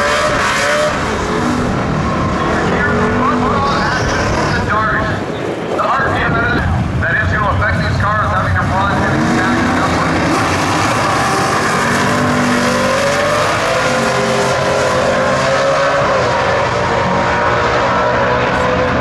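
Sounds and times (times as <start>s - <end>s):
drag cars accelerating hard: 0.0s - 19.0s.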